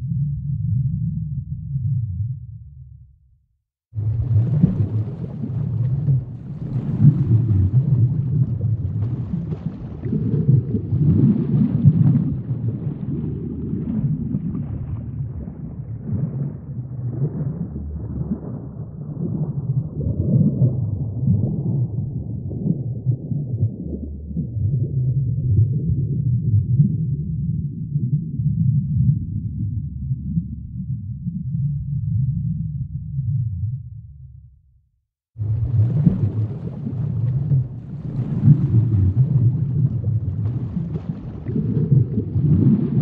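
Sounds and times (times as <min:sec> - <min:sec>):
underwater rumble of moving water: 0:00.0 - 0:03.1, 0:03.9 - 0:34.6, 0:35.3 - 0:43.0
faint underwater crackles: 0:03.9 - 0:31.4, 0:35.4 - 0:43.0.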